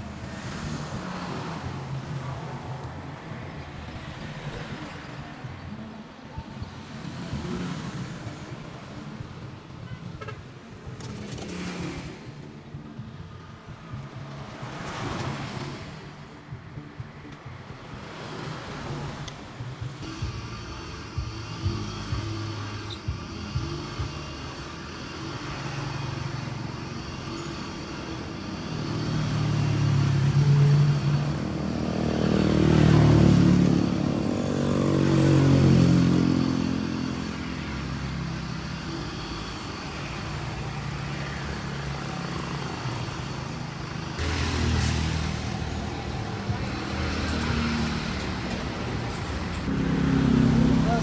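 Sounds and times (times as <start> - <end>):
car engine idling and revving: 0.0 - 10.0, 10.6 - 51.0.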